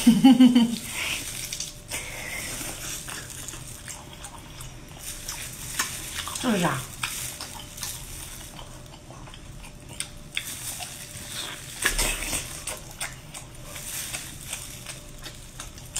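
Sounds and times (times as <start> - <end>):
wet smacks and chewing: 0.8 - 15.9.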